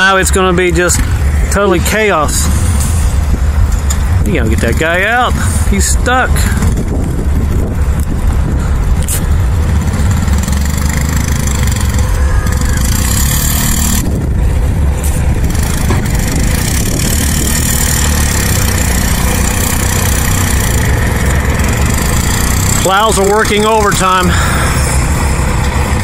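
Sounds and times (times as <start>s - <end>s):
steady low rumble: 0.0s - 26.0s
blizzard wind gusting: 0.6s - 13.1s, 13.7s - 22.7s.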